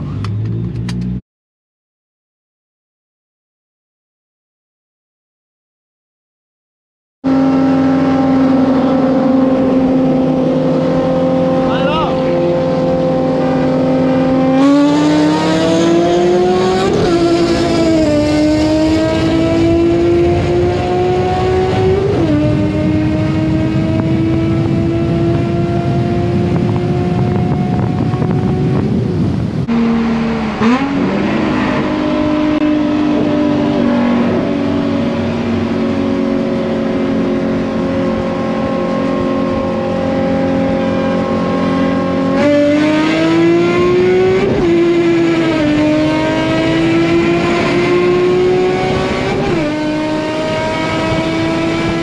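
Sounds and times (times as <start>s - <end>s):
car engine accelerating: 7.2s - 52.0s.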